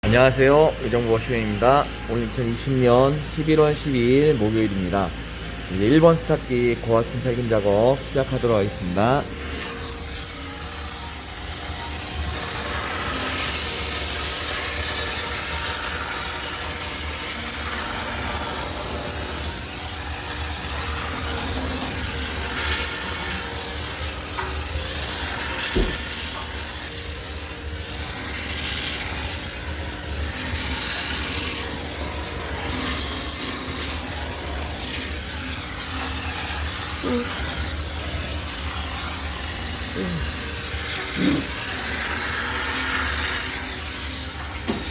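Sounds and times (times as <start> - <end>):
steam cleaner hissing: 0.0 - 44.9.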